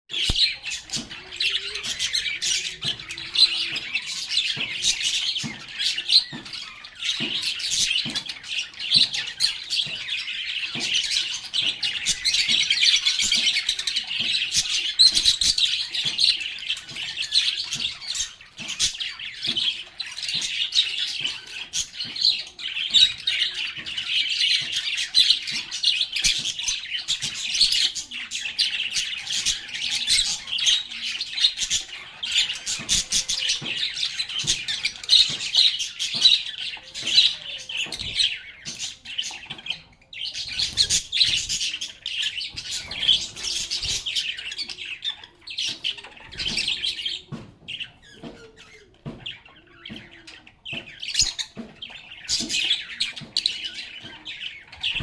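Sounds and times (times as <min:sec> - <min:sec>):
flock of birds chirping: 0:00.1 - 0:55.0.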